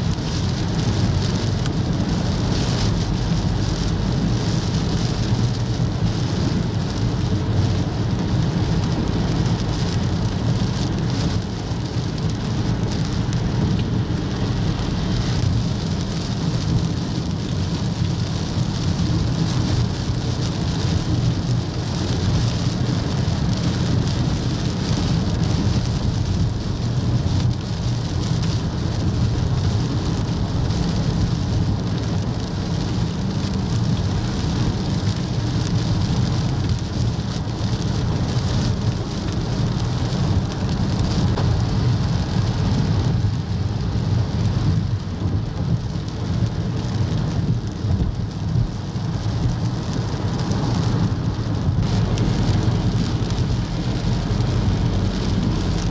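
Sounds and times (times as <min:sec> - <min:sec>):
torrential rain pouring: 0:00.0 - 0:55.9
traffic hissing on wet road: 0:00.0 - 0:55.9.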